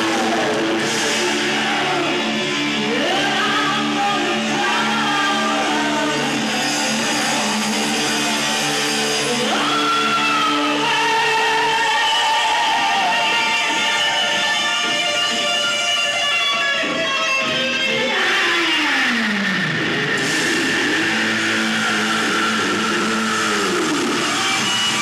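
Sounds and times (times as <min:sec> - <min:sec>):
electric guitar sliding notes: 0:00.0 - 0:25.0
live rock band playing: 0:00.0 - 0:25.0.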